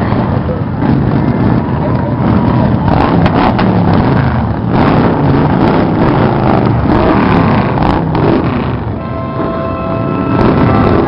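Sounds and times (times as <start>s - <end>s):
motorcycles riding past: 0.0s - 11.0s.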